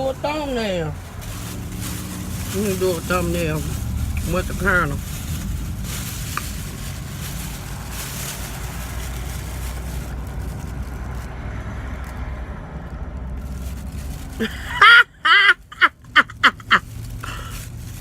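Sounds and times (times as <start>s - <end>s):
vehicle idling rumble: 0.0s - 18.0s.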